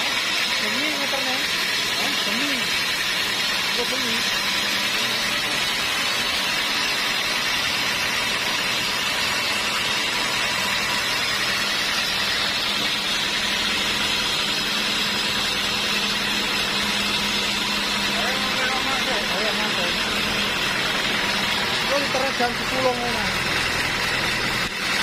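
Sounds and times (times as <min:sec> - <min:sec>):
sawmill machinery droning: 0:00.0 - 0:25.0.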